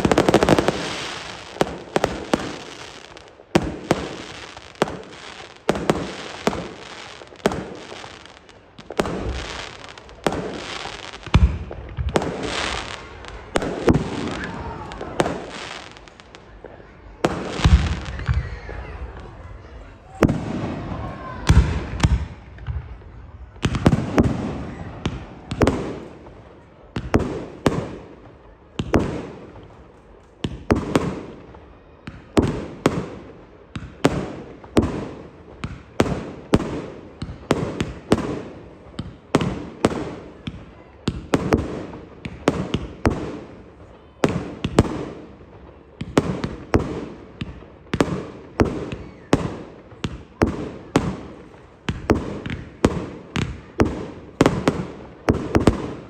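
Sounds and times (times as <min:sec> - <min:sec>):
fireworks bangs echoing: 0:00.0 - 0:56.0.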